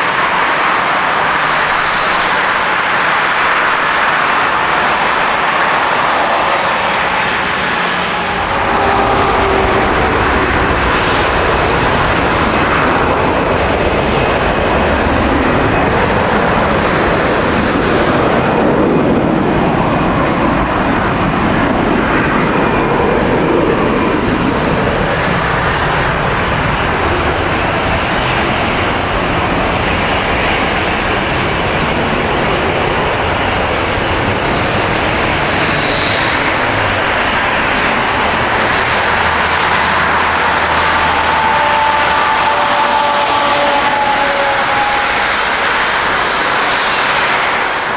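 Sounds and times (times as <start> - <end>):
jet airliner engines roaring: 0.0 - 47.9.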